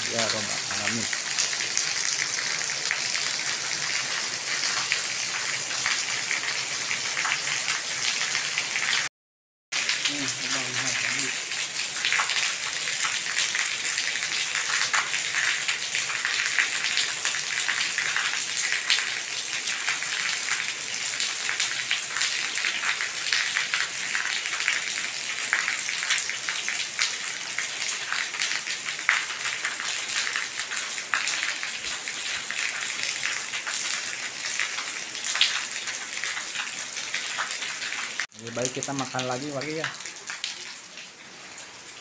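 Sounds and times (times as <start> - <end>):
rain pattering on pavement and roofs: 0.0 - 9.1, 9.8 - 42.0.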